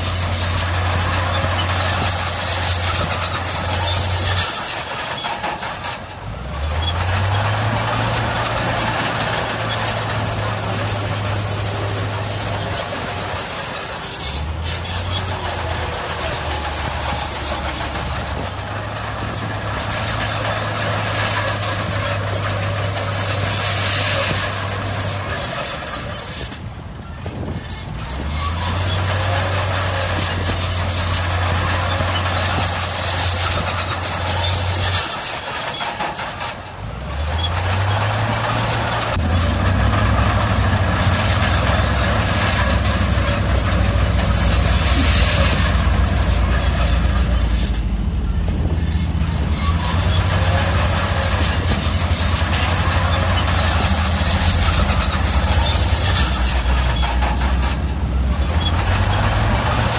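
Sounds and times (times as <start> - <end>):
bulldozer diesel engine: 0.0 - 59.9
metallic clatter of tracks: 0.0 - 59.9.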